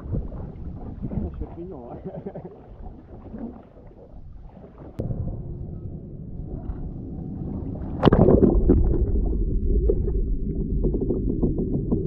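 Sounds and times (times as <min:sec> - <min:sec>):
water bubbling: 0:00.0 - 0:05.0, 0:06.4 - 0:12.0
muffled underwater rumble: 0:00.0 - 0:12.0.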